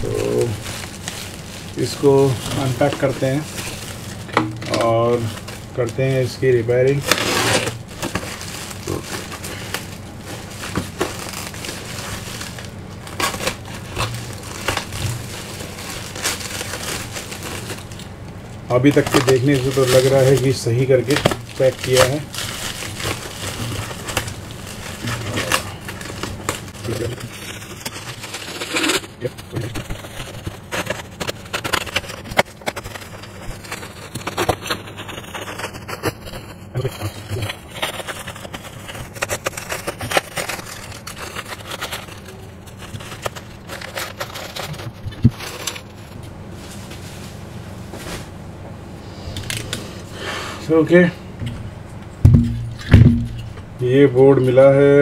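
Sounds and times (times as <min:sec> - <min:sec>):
packaging crinkling and rustling: 0:00.0 - 0:48.4.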